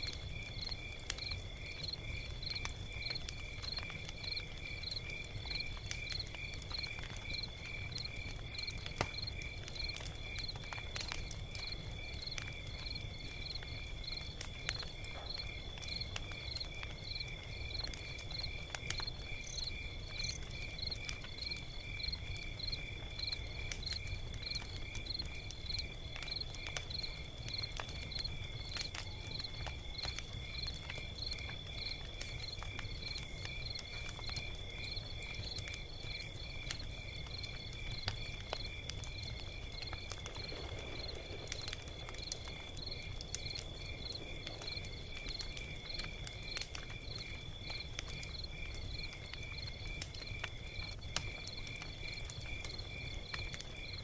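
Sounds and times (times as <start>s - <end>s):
log fire crackling: 0.0s - 54.0s.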